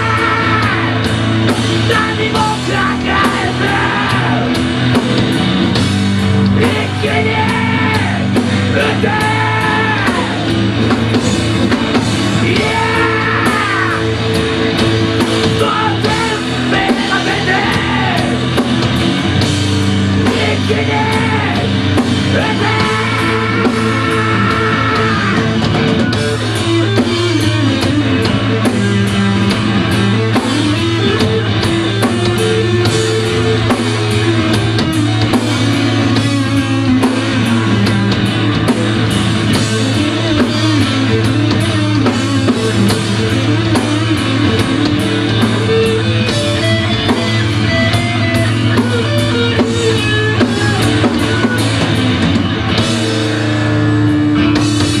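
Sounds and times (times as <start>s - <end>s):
drum kit: 0.0s - 55.0s
electric guitar: 0.0s - 55.0s.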